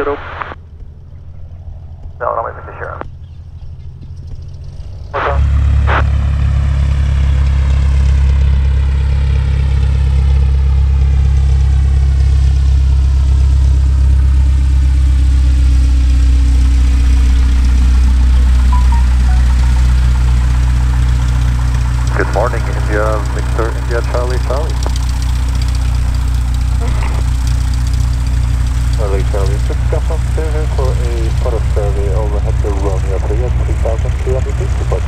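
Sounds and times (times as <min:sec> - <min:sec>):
propeller plane engine droning: 0:00.0 - 0:35.0.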